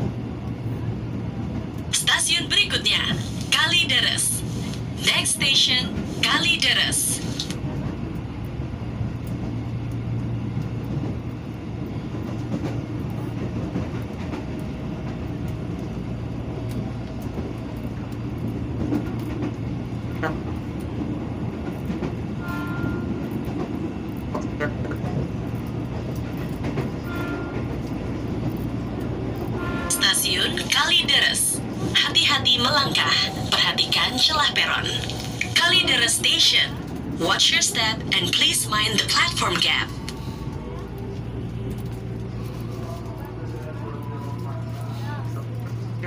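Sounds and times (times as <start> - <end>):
rail clicks: 0.0 - 46.0
train rumble and hum: 0.0 - 46.0.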